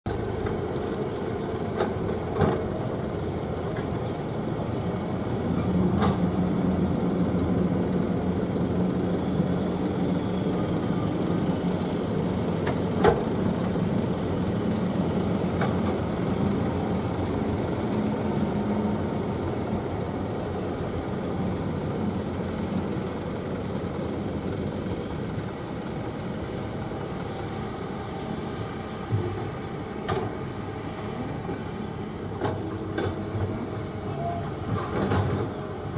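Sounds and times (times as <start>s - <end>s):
excavator diesel engine running: 0.1s - 35.9s.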